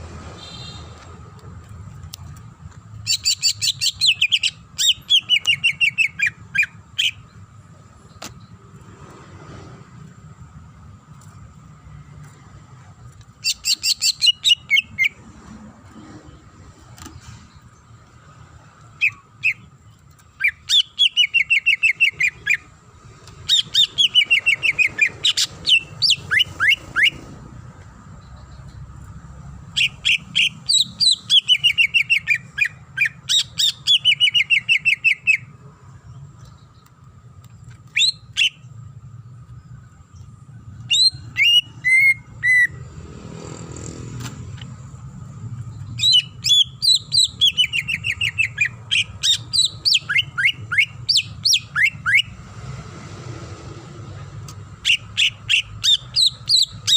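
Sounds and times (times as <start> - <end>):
bird singing rapid chirps: 2.3 - 9.0, 13.0 - 15.4, 16.2 - 52.8, 54.0 - 56.9.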